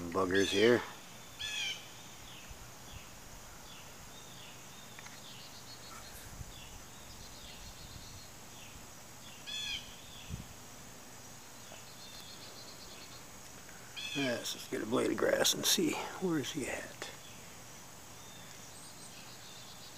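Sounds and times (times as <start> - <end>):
birds chirping: 0.0 - 19.9
steady hiss: 0.0 - 19.9.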